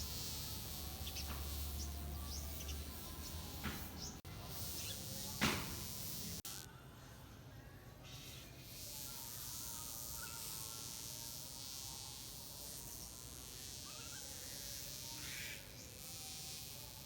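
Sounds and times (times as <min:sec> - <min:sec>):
wasp buzzing: 0:00.0 - 0:06.7, 0:08.1 - 0:17.0.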